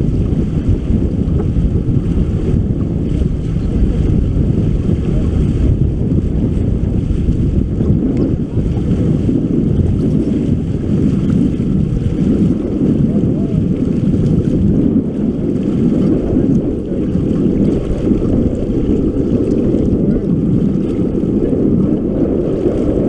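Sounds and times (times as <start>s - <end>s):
water washing against hull: 0.0s - 23.0s
wind buffeting microphone: 0.0s - 23.0s.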